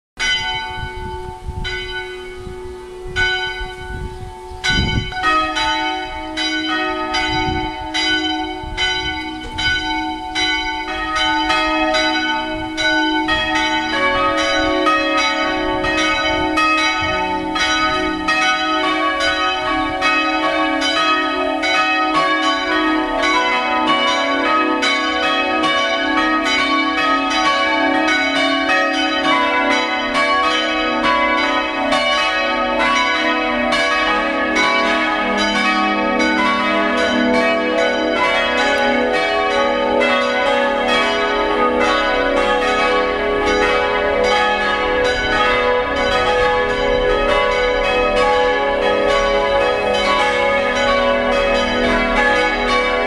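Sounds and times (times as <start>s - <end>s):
church bells pealing: 0.2s - 53.0s.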